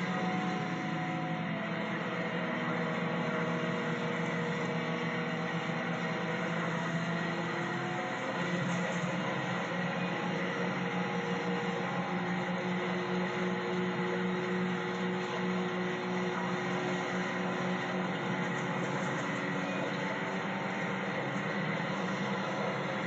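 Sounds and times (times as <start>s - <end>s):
garbage truck engine running: 0.0s - 23.0s.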